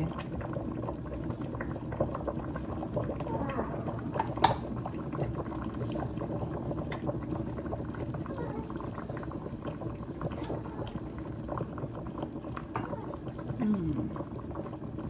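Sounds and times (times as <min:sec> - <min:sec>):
broth boiling in a stockpot: 0:00.0 - 0:15.0.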